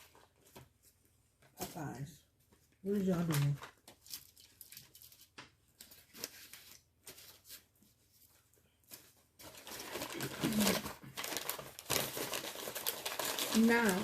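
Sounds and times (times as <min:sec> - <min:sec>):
paper wrapper crinkling: 0:02.5 - 0:14.0.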